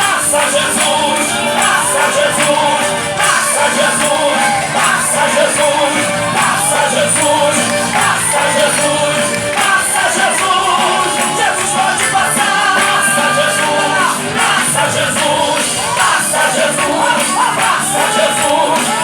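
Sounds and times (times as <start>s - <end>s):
band accompaniment: 0.0s - 19.0s
person singing gospel: 0.0s - 19.0s.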